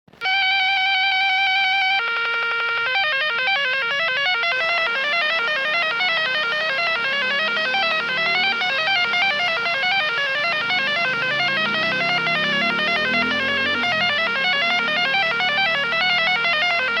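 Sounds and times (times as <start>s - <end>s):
emergency alarm tones: 0.2s - 17.0s.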